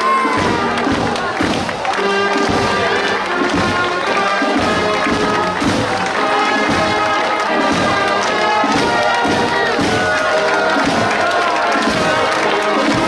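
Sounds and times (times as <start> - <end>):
brass notes: 0.0 - 13.0
steady drum beat: 0.0 - 13.0.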